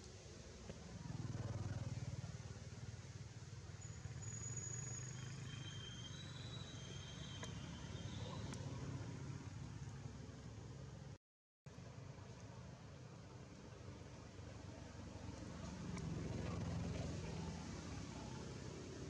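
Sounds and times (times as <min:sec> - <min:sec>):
vehicle engine humming: 0:00.0 - 0:11.2, 0:11.8 - 0:19.0.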